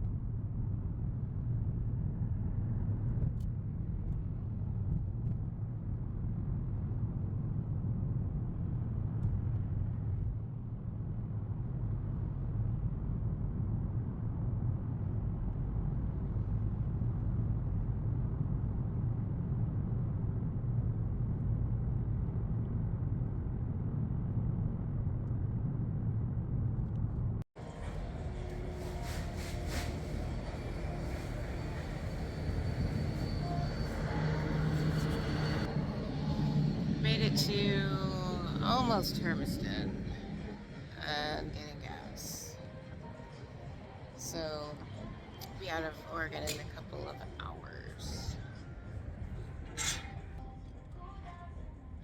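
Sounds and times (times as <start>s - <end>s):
car road and engine rumble: 0.1s - 45.2s.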